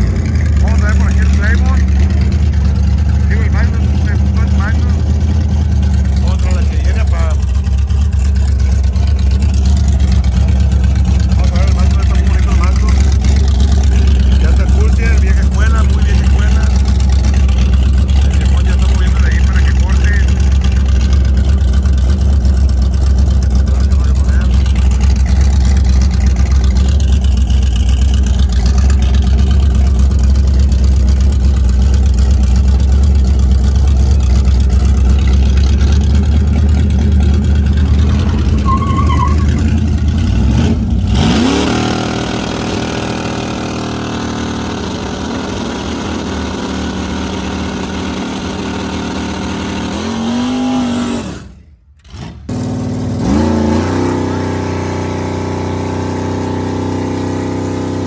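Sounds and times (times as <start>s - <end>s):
car engines rumbling: 0.0s - 58.0s
engine revving: 0.0s - 58.0s.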